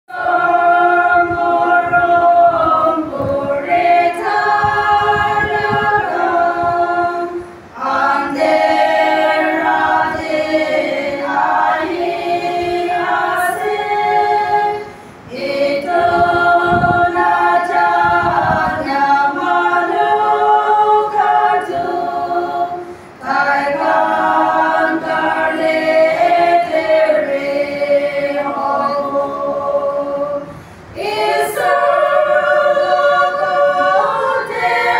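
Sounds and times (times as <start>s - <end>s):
women's choir singing unaccompanied: 0.1s - 34.9s.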